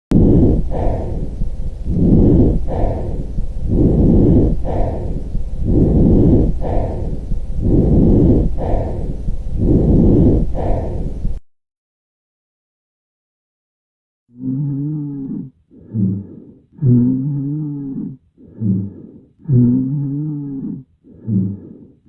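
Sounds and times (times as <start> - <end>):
lung breath sounds: 0.1 - 11.4, 14.4 - 22.0.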